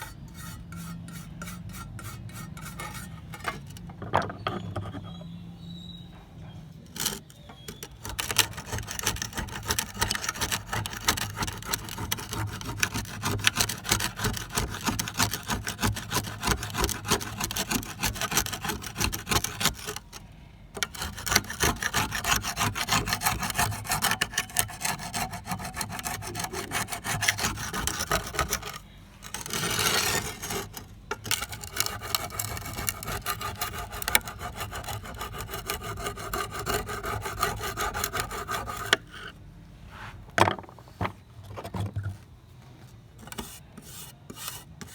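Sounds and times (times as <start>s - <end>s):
scraping metal by hand: 0.0s - 5.4s, 6.8s - 20.2s, 20.8s - 39.4s, 43.2s - 44.9s.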